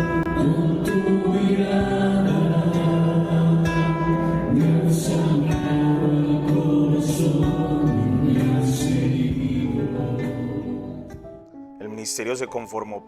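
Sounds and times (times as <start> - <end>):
choir singing worship song: 0.0 - 11.4.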